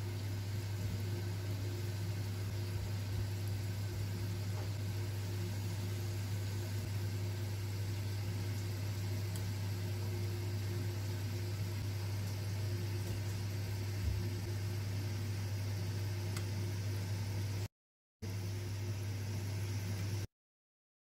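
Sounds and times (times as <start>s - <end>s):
steady low hum: 0.0s - 20.3s.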